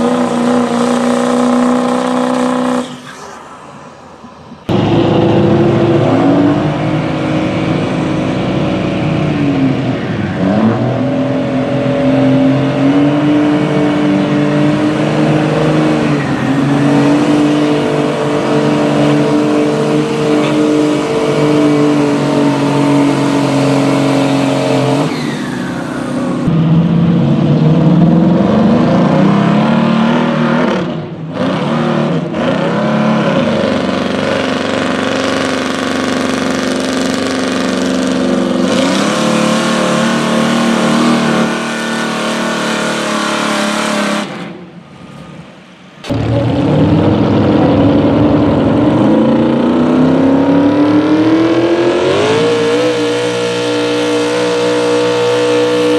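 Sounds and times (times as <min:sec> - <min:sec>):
diesel truck engine under load: 0:00.0 - 0:55.9
truck engine revving: 0:00.0 - 0:55.9.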